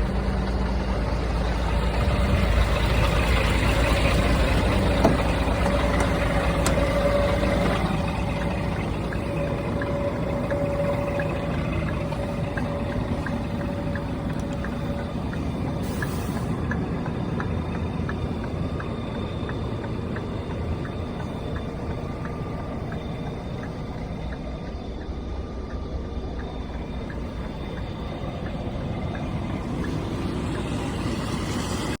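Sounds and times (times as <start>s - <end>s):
light regular ticking: 0.0s - 31.9s
road noise: 0.0s - 32.0s
truck engine running: 0.0s - 32.0s.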